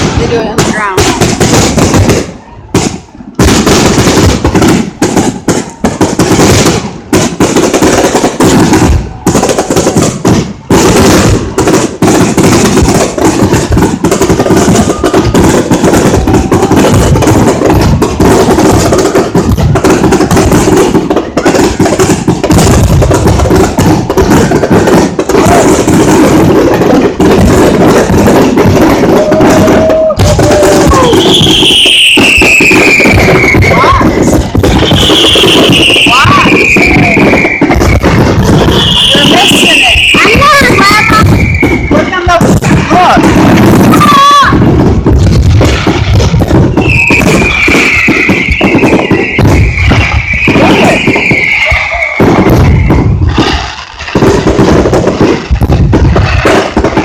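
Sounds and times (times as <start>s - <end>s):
fireworks cracking and banging: 0.0s - 57.0s.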